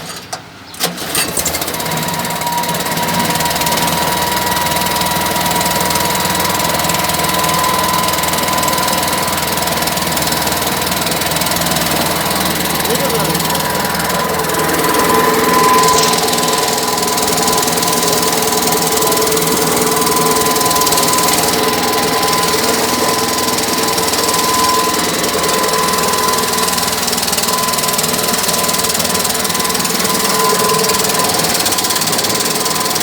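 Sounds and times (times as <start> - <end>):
air compressor engine running: 1.3 - 33.0.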